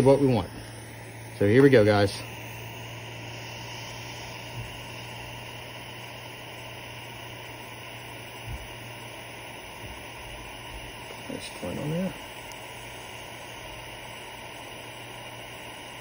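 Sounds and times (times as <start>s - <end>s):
low steady hum: 0.0s - 16.0s
soldering iron hissing: 0.0s - 16.0s.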